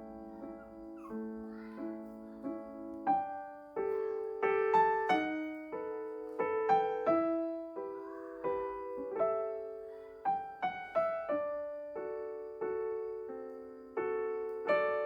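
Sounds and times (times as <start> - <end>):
slow gentle piano melody: 0.0 - 15.0.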